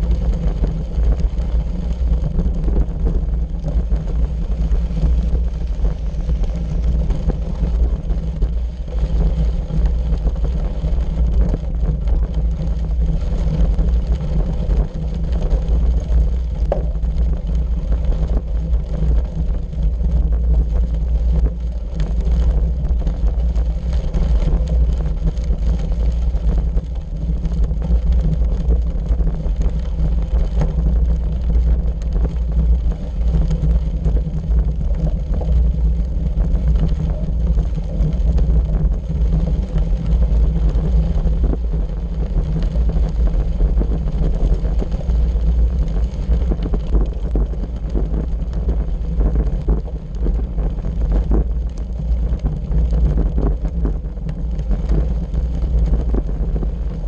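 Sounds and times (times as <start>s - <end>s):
bicycle tyres rolling on gravel: 0.0s - 57.0s
wind buffeting microphone: 0.0s - 57.0s.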